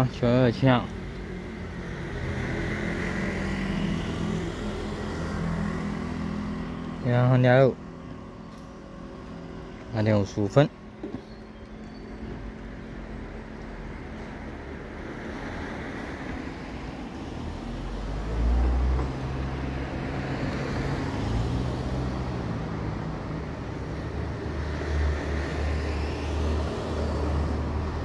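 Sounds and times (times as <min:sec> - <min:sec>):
vehicle engine humming: 0:00.6 - 0:28.0.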